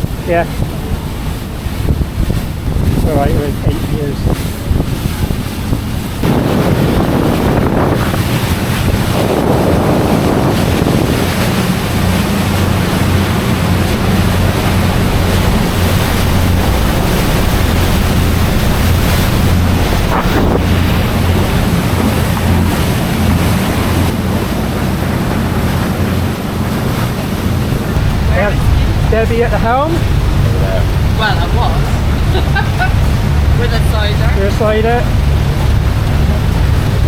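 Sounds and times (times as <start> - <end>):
boat engine drone: 0.0 - 37.0
water rushing along hull: 0.0 - 37.0
wind buffeting microphone: 0.0 - 37.0.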